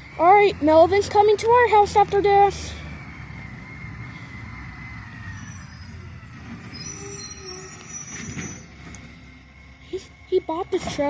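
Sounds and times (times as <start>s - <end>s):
garbage truck engine rumble: 0.0s - 11.0s
thin high-pitched whine: 0.0s - 11.0s.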